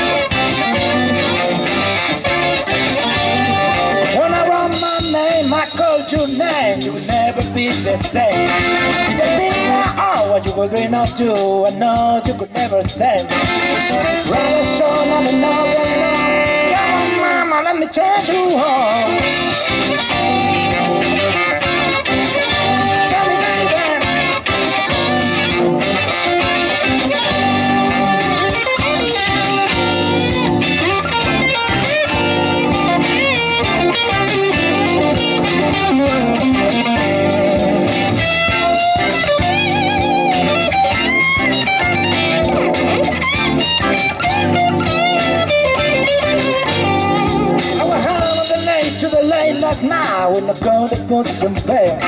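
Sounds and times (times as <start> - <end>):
electric guitar bent notes: 0.0 - 50.6
electric blues band playing: 0.0 - 52.0.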